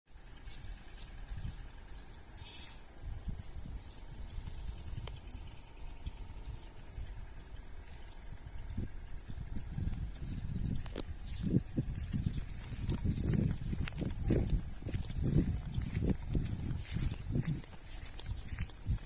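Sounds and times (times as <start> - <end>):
insects trilling: 0.1 - 19.0
low uneven rumble: 0.5 - 19.0.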